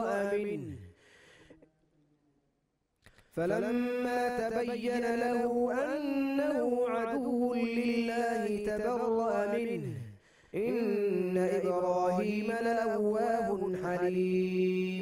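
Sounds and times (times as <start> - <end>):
man reciting melodically: 0.0 - 1.0, 3.3 - 15.0.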